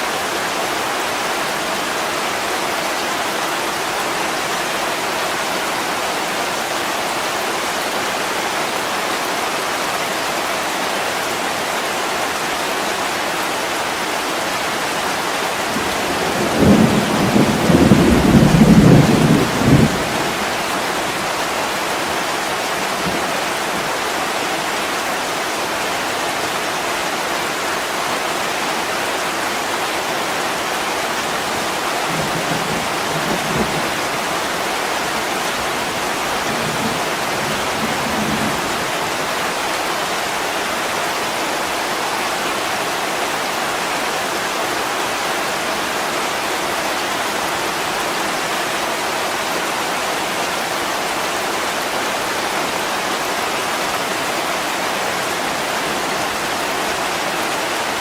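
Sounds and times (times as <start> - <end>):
heavy rain on a window: 0.0 - 58.0.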